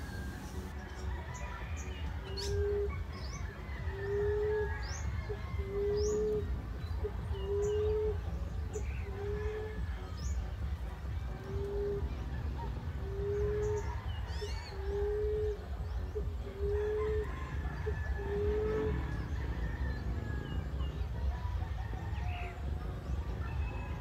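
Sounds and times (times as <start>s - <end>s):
dove cooing: 0.0s - 0.8s, 1.4s - 24.0s
bird chirping: 0.0s - 24.0s.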